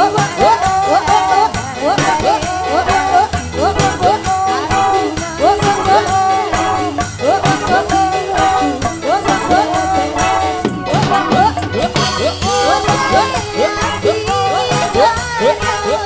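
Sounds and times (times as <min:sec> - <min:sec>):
bass line: 0:00.0 - 0:16.0
hand drum patterns: 0:00.0 - 0:16.0
metallophones: 0:00.0 - 0:16.0
rattling percussion: 0:00.0 - 0:16.0
woman singing: 0:00.0 - 0:16.0.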